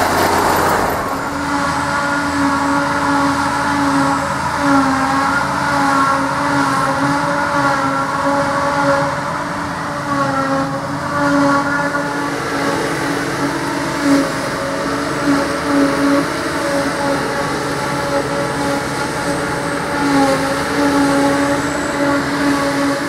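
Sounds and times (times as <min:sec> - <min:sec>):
harvester and tractor engines humming: 0:00.0 - 0:23.0.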